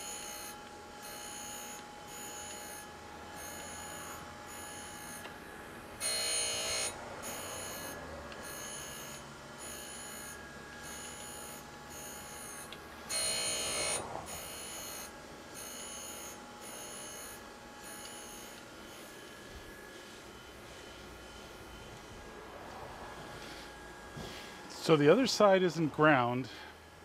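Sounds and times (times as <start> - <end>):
low motor hum: 0.0 - 24.9
grinding wheel ringing whine: 0.0 - 27.0.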